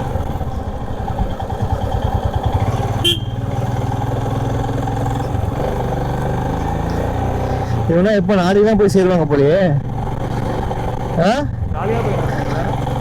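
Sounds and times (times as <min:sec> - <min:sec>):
motorcycle engine pulsing at low speed: 0:00.0 - 0:13.0.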